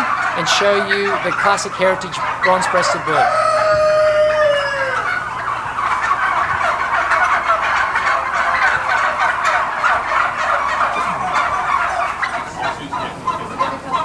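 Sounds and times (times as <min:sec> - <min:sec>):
turkeys gobbling: 0:00.0 - 0:14.0.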